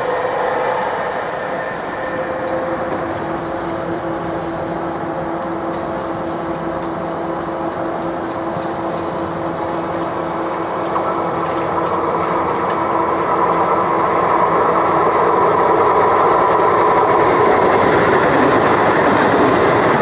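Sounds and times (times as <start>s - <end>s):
electric train approaching: 0.0s - 20.0s.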